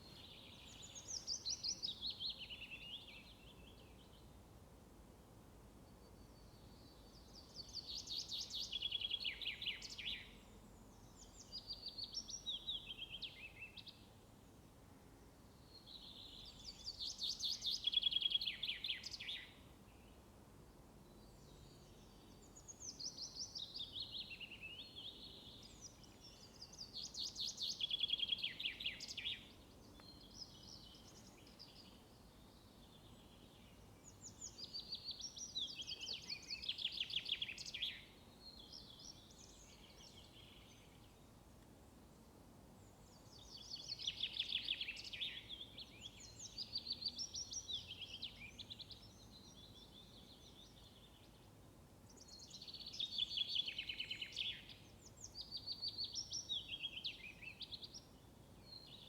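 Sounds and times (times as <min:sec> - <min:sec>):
faint outdoor background hiss: 0:00.0 - 0:59.0.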